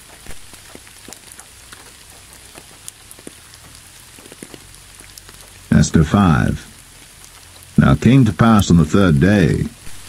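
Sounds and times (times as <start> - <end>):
sharp ticks of raindrops: 0.0 - 10.0
steady rain: 0.0 - 10.0.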